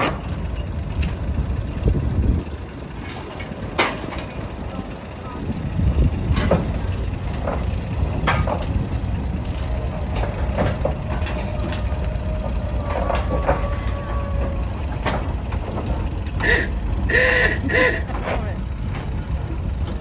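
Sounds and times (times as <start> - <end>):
gravel clicking under tyres: 0.0 - 17.1
tractor engine running: 0.0 - 20.0.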